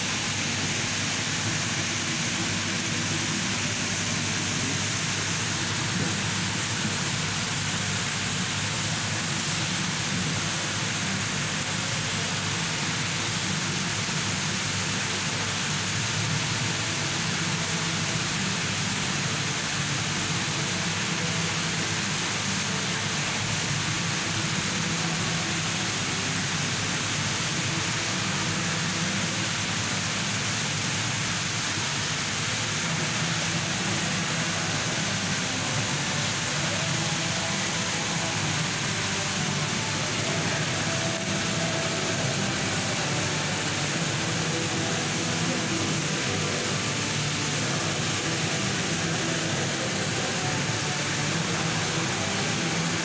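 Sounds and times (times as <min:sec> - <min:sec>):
steady rushing noise: 0:00.0 - 0:53.0.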